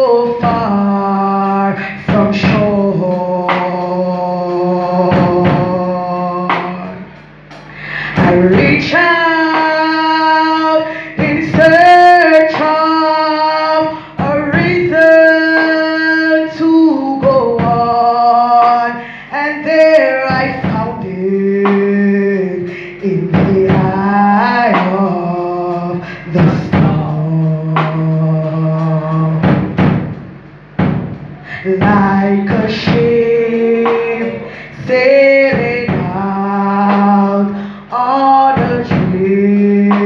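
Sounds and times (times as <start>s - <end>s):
man singing: 0.0s - 7.1s, 8.0s - 29.6s, 31.4s - 40.0s
woman singing gospel: 0.0s - 29.9s, 31.4s - 40.0s.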